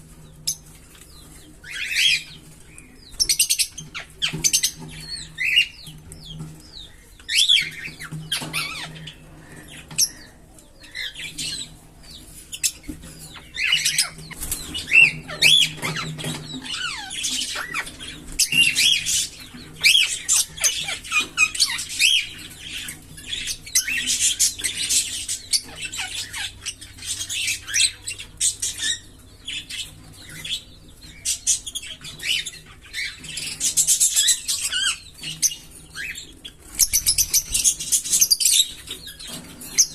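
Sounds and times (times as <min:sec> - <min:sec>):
lovebirds chirping: 0:00.1 - 0:39.9.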